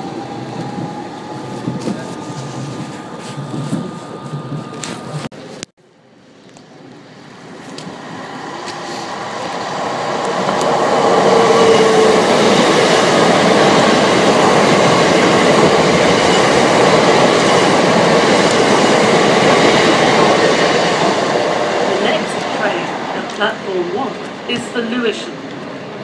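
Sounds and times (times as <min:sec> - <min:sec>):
train wheels on rail: 0:00.0 - 0:05.7, 0:06.6 - 0:26.0.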